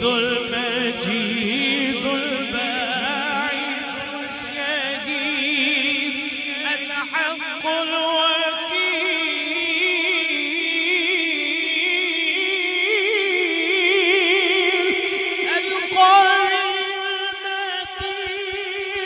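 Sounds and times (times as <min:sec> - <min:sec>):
man singing: 0:00.0 - 0:19.0.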